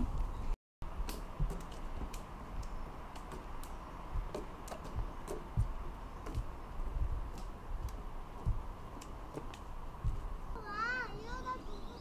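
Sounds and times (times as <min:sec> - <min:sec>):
footsteps on wooden boardwalk: 0:00.0 - 0:10.6.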